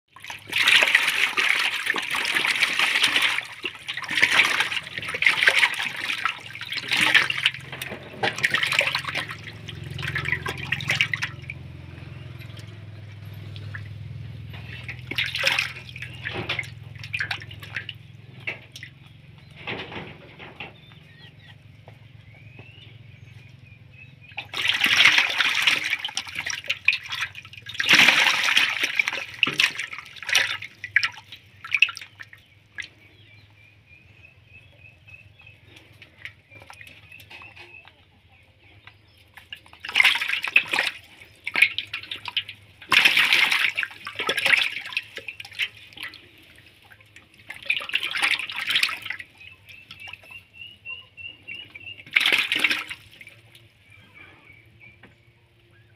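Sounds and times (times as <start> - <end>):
fish splashing in a metal basin: 0.1 - 21.4, 22.2 - 55.1.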